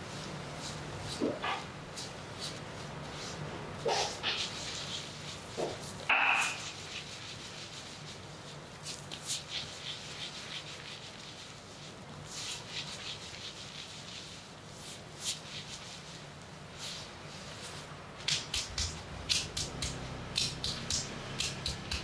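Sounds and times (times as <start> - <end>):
hands scrubbing hair: 0.0 - 22.0.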